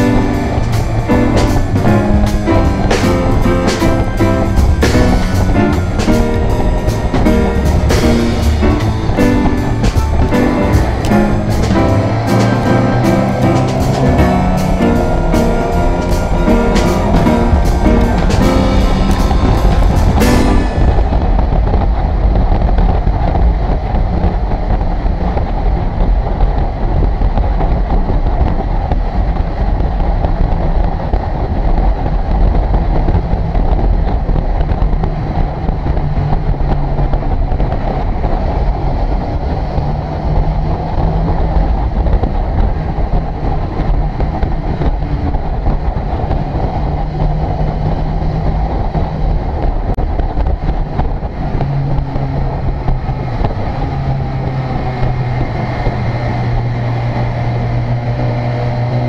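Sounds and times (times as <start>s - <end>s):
motorcycle engine running: 0.0s - 59.0s
road rumble: 0.0s - 59.0s
wind: 0.0s - 59.0s.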